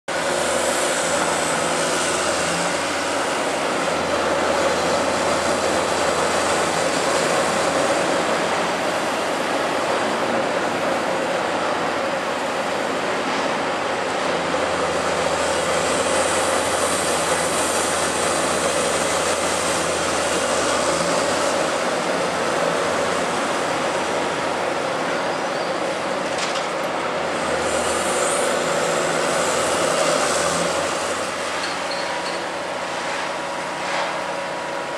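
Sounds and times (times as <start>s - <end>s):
excavator diesel drone: 0.1s - 34.9s.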